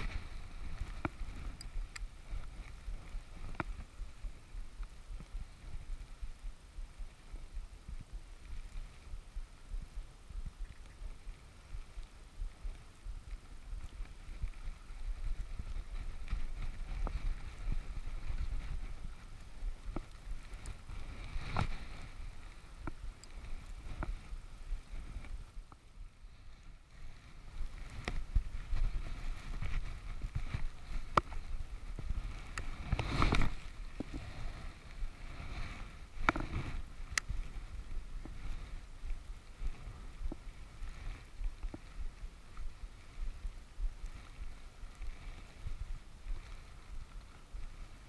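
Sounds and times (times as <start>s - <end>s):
wind rumble on microphone: 0.0s - 48.0s.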